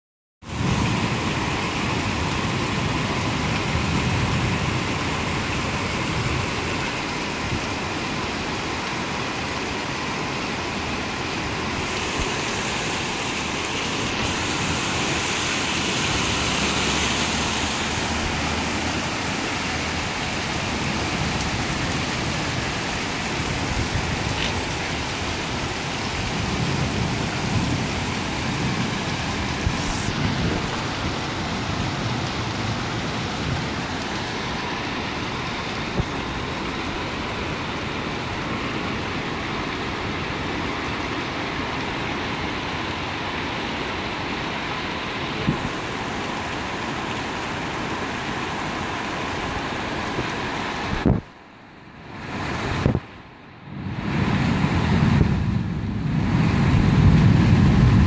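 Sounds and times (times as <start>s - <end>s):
heavy rain pouring on street: 0.4s - 58.0s.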